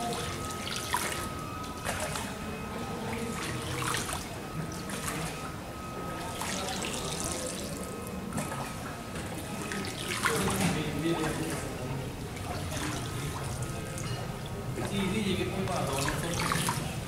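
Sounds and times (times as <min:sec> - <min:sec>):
faint steady high tone: 0:00.0 - 0:17.0
water splashing and lapping: 0:00.0 - 0:17.0.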